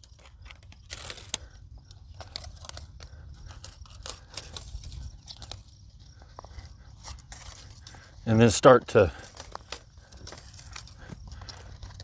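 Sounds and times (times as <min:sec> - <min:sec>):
wire and screwdriver scraping: 0:00.0 - 0:12.0.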